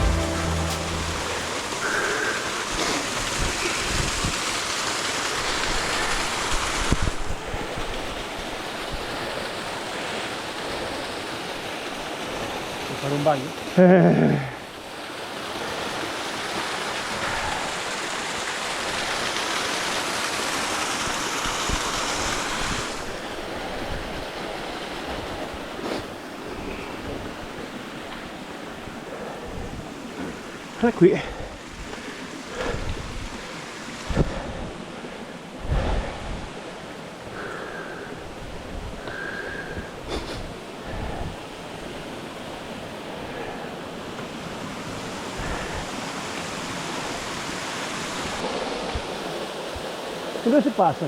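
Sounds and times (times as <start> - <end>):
flowing river water: 0.0 - 51.0.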